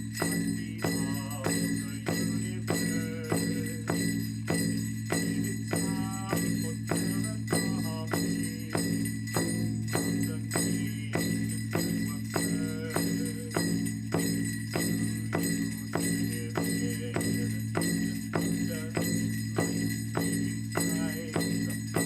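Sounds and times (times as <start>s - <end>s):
steady ringing: 0.0s - 22.0s.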